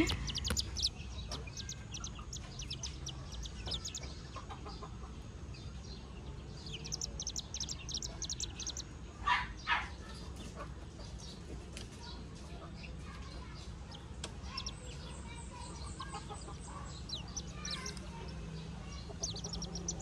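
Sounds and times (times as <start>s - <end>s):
chick peeping: 0.0s - 20.0s.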